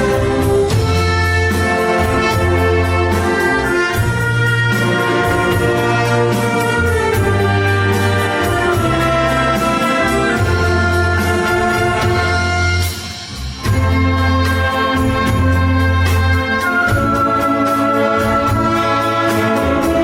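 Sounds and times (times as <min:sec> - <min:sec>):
wind orchestra playing: 0:00.0 - 0:20.0.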